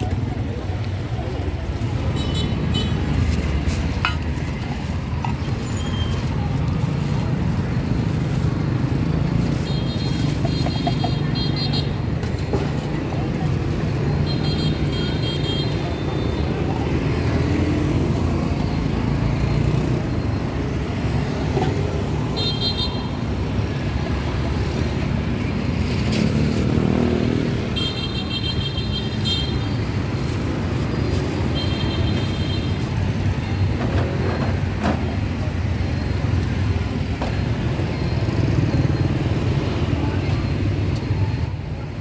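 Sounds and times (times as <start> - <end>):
motorbike and car traffic: 0.0 - 42.0.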